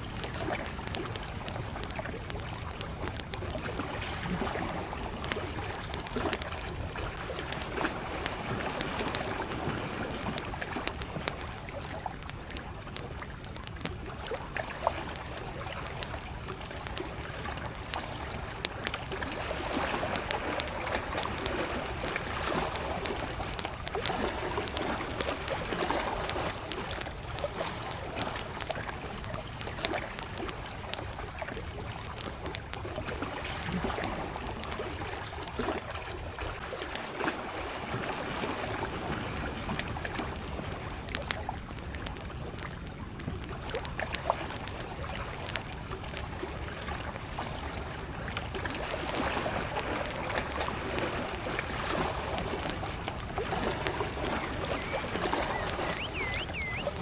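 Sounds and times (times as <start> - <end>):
campfire crackling and popping: 0.0 - 36.8, 37.9 - 57.0
lake waves lapping at shore: 0.0 - 57.0.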